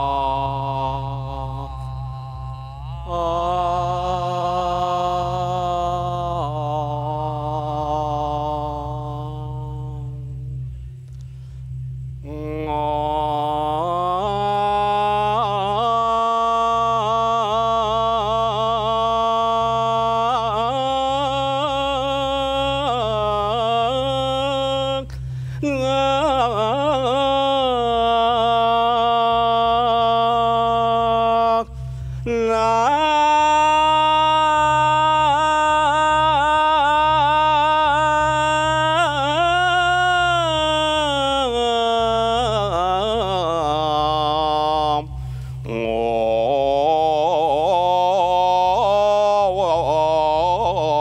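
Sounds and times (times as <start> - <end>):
person chanting: 0.0 - 51.0
steady low hum: 0.0 - 51.0.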